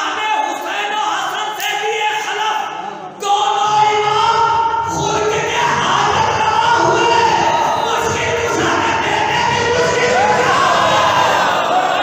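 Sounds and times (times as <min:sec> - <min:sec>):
man singing over loudspeakers: 0:00.0 - 0:12.0.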